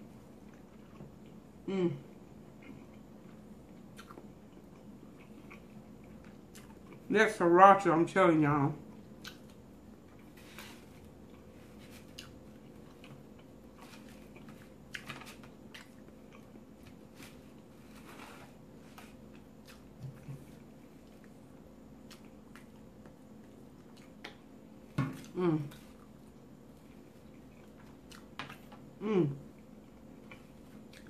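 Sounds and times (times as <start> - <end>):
faint steady hum: 0.0 - 31.0
person chewing: 0.1 - 7.1, 8.9 - 24.5, 25.2 - 31.0.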